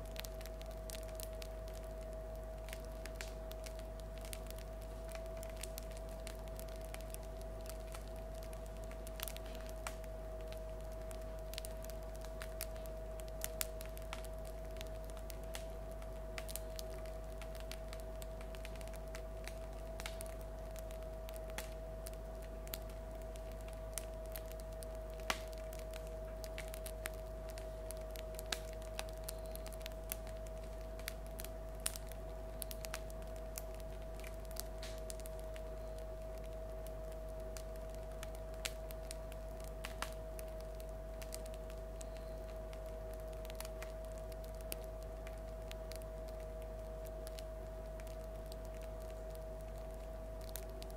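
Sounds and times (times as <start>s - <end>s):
bread crust crackling: 0.0s - 50.9s
steady background hum: 0.0s - 50.9s.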